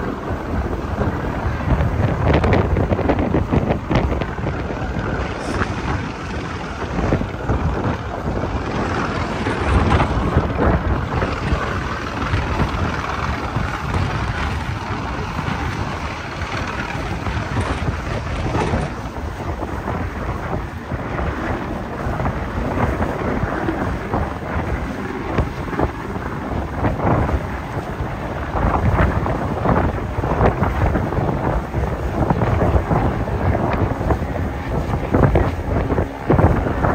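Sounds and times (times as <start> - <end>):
water rushing from boat wake: 0.0 - 36.9
wind buffeting microphone: 0.0 - 36.9.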